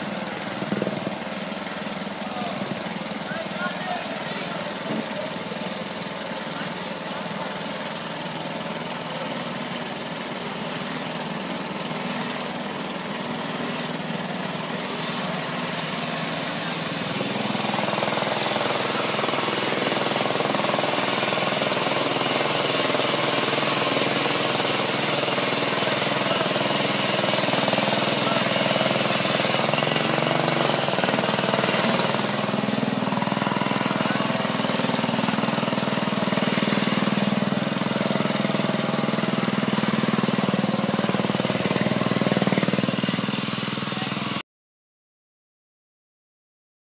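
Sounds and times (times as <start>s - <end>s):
lawn mower engine running: 0.0s - 44.4s.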